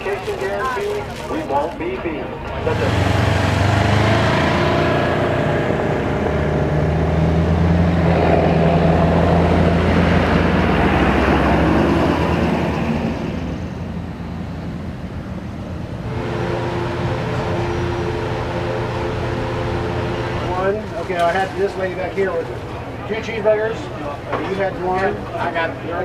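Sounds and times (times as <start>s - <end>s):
pickup truck engine droning: 2.3s - 25.9s.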